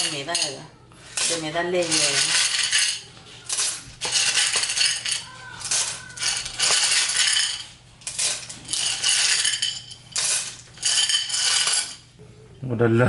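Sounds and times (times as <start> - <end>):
small hard pieces clattering in bowl: 0.0 - 12.0.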